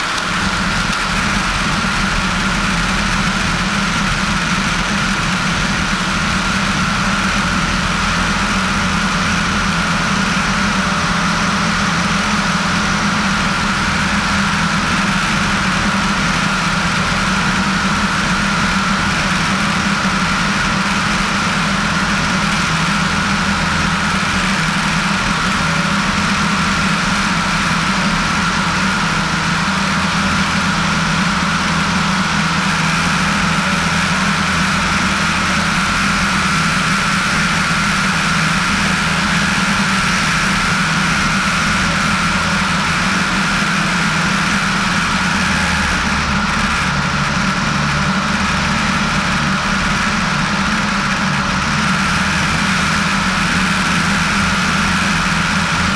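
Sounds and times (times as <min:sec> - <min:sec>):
airplane engine and propeller droning: 0:00.0 - 0:55.9.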